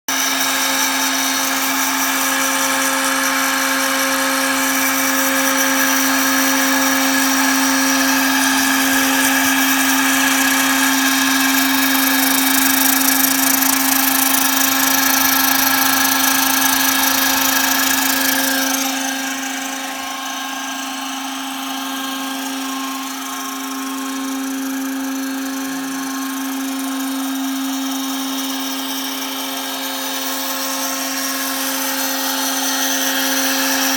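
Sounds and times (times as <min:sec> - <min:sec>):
router milling plastic: 0:00.1 - 0:33.9.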